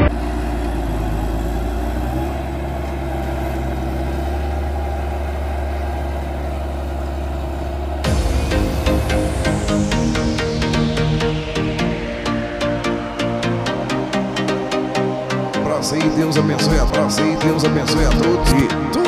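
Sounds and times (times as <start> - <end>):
music: 0.0 - 1.5, 4.2 - 19.0
tractor diesel engine under load: 0.0 - 19.0.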